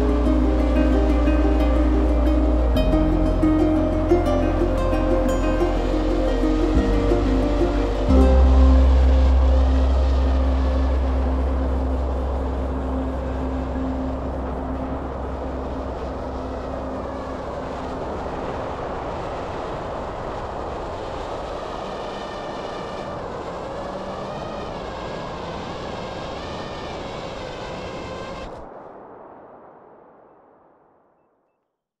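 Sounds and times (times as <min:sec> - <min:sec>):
wind noise: 0:00.0 - 0:31.3.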